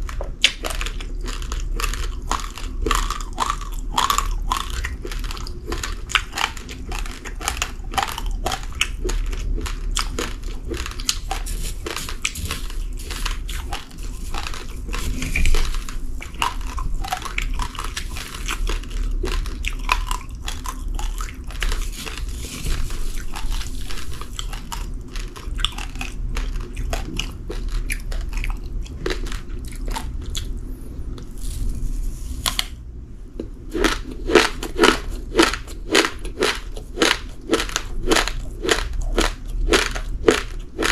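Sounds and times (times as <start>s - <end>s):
person chewing raw rice: 0.0s - 40.9s.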